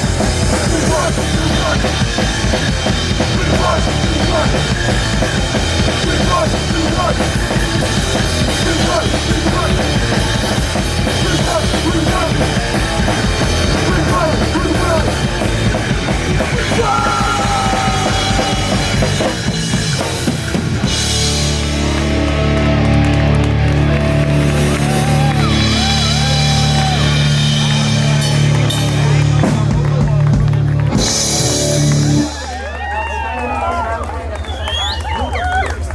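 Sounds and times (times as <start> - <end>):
drum kit pounding: 0.0 - 33.1
punk rock band playing: 0.0 - 33.6.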